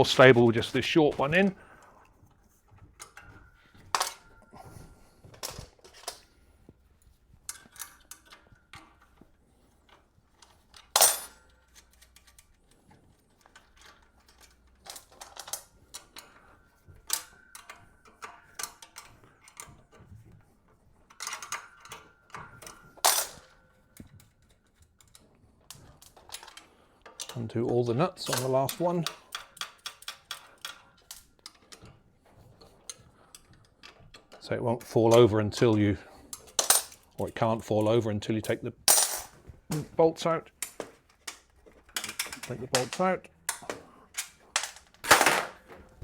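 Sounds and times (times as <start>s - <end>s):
small metal clinks and scrapes: 0.0s - 39.8s, 40.5s - 46.0s.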